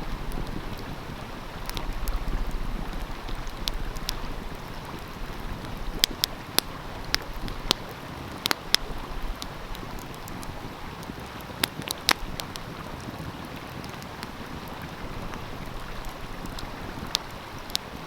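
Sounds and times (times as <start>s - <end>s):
stream rushing: 0.0s - 18.0s
wind rumble on microphone: 0.0s - 18.0s
wood fire crackling and popping: 0.1s - 18.0s.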